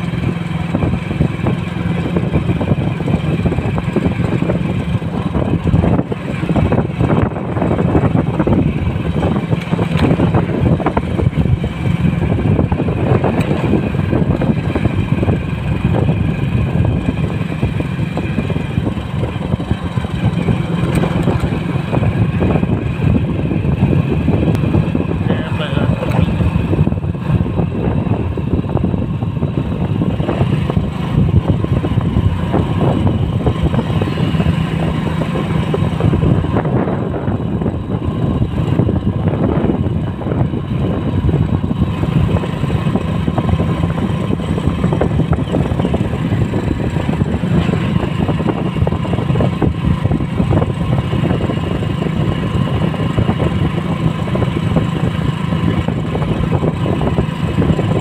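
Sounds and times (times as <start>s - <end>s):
motorcycle engine running: 0.0s - 58.0s
road and wind noise: 0.0s - 58.0s.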